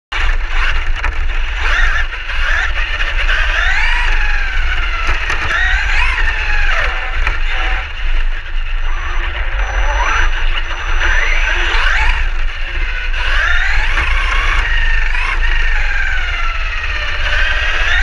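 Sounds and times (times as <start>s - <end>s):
electric motor whining: 0.2s - 18.0s
low rumble: 3.5s - 18.0s.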